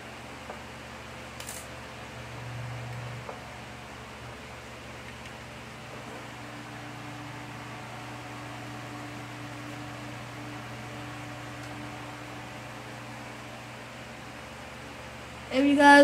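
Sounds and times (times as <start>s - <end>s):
machine humming and hissing: 0.0s - 16.0s.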